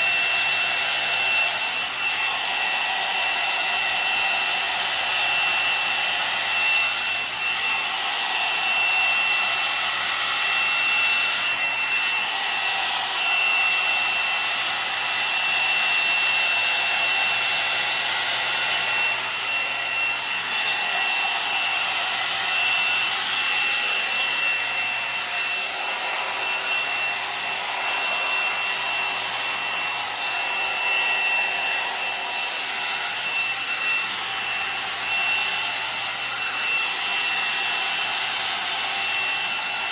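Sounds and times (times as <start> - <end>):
hair dryer brush blowing: 0.0 - 39.9.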